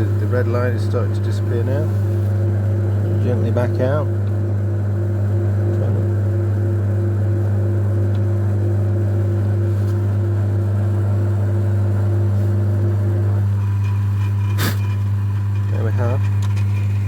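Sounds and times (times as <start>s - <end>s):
metal lathe spinning: 0.0s - 5.4s, 6.0s - 17.0s.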